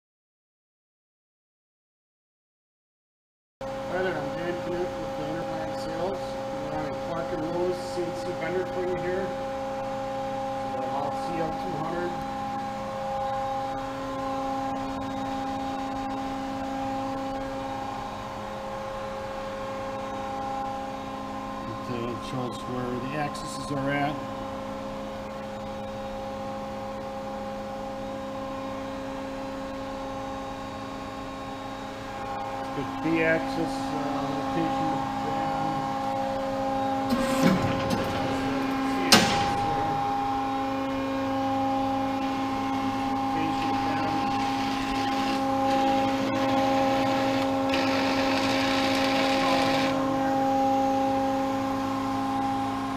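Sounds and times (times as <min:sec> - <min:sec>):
electric machine hum: 0:03.6 - 0:52.9.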